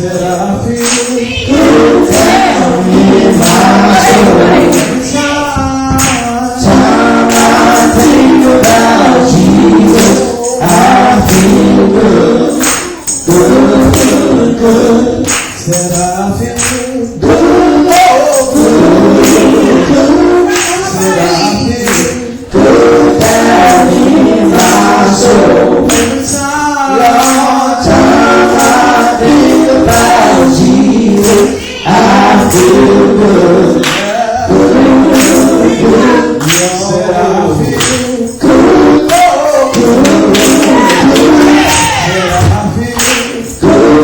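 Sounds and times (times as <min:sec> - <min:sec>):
gospel singing: 0:00.0 - 0:44.0
tambourine shaken and struck: 0:00.0 - 0:44.0.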